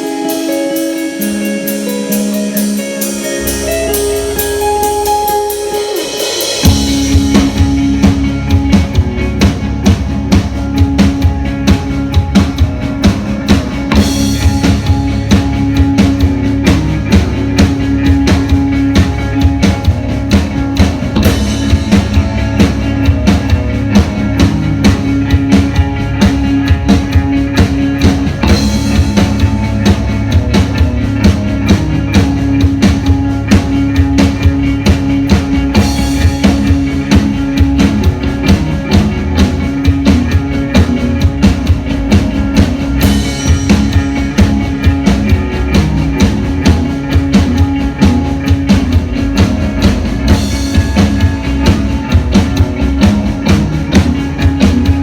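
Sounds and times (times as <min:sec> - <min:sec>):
bass guitar: 0:00.0 - 0:55.0
drums: 0:00.0 - 0:55.0
electric guitar: 0:00.0 - 0:55.0.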